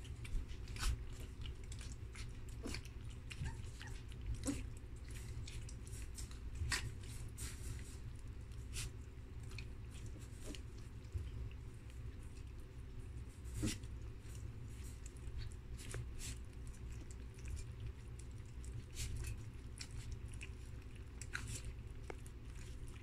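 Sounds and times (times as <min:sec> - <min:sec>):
low steady hum: 0:00.0 - 0:23.0
puppies lapping milk: 0:00.0 - 0:23.0.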